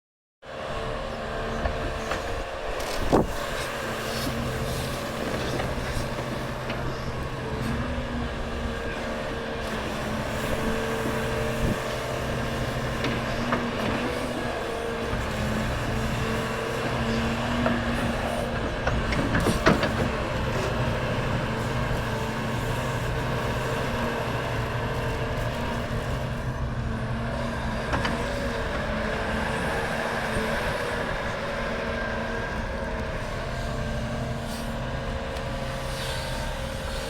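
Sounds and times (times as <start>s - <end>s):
heavy diesel machinery running: 0.5s - 37.0s.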